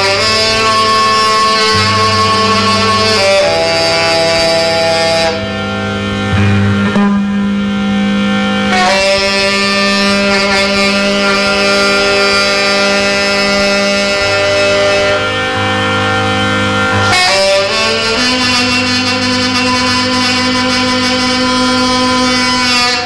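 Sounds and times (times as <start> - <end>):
harmonium chords: 0.0 - 23.0
low bass notes: 0.0 - 23.0.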